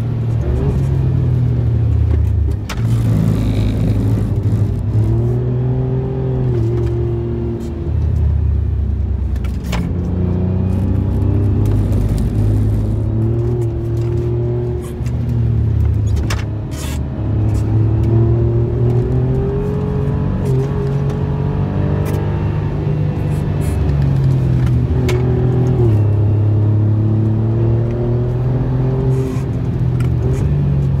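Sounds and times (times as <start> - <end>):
car engine under throttle: 0.0 - 31.0.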